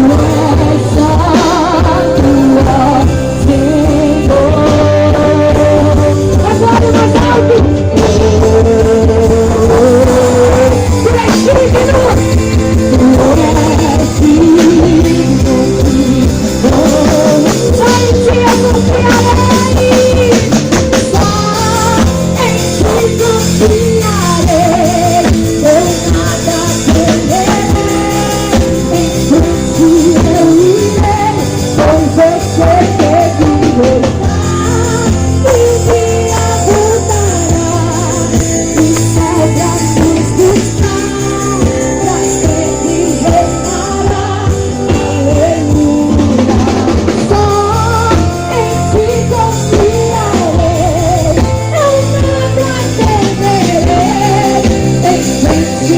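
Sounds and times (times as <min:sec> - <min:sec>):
person singing: 0:00.0 - 0:55.9
worship band playing: 0:00.0 - 0:55.9.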